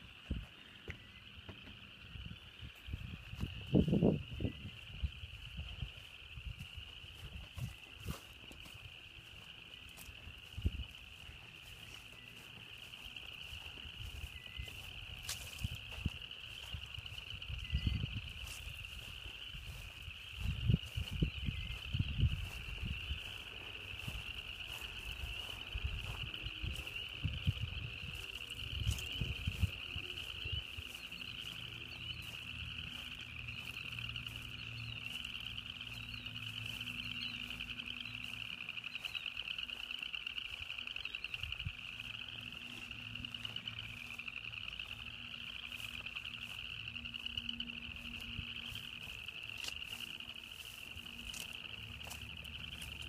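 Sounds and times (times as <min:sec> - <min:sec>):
frogs trilling and peeping: 0:00.0 - 0:53.0.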